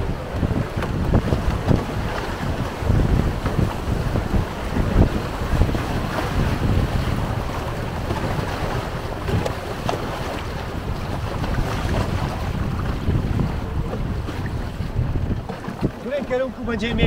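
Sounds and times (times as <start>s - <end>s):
river water around raft: 0.0s - 17.0s
wind buffeting microphone: 0.0s - 17.0s.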